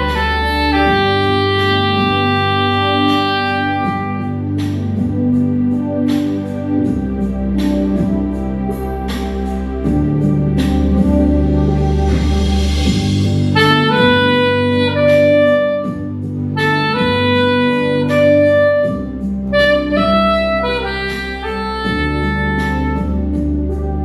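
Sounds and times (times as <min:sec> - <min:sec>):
low accompaniment chords: 0:00.0 - 0:24.0
soprano saxophone slow melody: 0:00.0 - 0:24.0.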